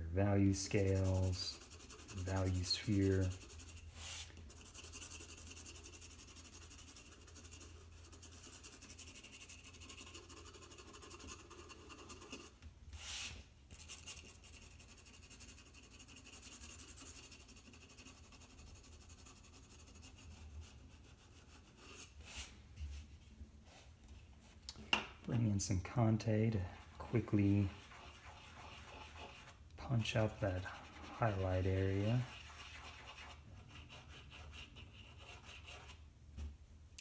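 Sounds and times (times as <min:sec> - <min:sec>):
pencil scratching on paper: 0:00.6 - 0:22.4, 0:26.5 - 0:36.0.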